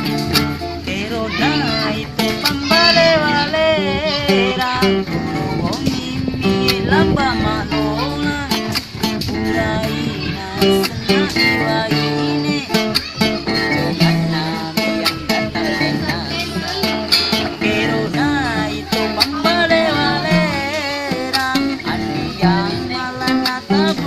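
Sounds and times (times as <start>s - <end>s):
person singing: 0.0s - 24.0s
plucked guitar: 0.0s - 24.0s.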